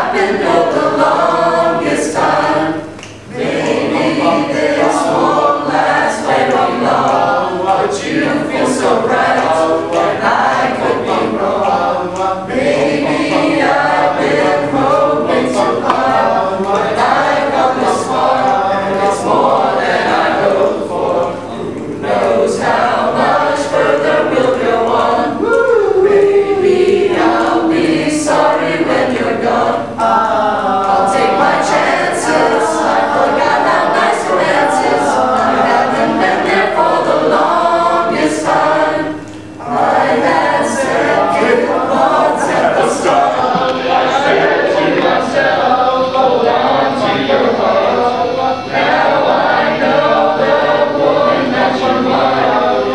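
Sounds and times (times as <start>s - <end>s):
mixed choir singing a cappella: 0.0s - 52.9s.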